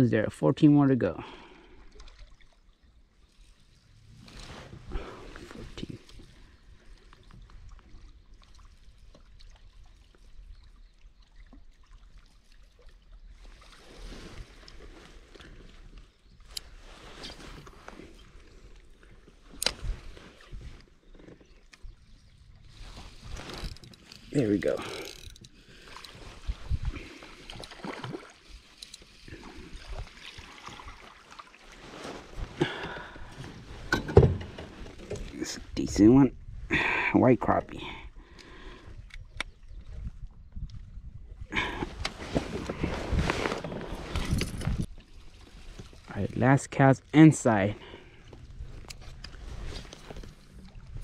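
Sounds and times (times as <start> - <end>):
water lapping against hull: 1.3 - 35.8, 38.0 - 46.2, 47.8 - 51.0.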